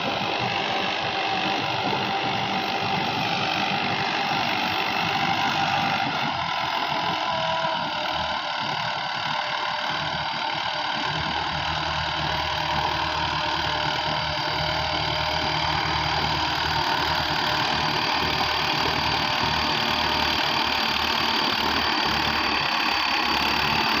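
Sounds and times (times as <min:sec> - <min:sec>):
rotavator churning soil: 0:00.0 - 0:08.3, 0:09.6 - 0:24.0
tractor diesel engine running: 0:00.0 - 0:24.0.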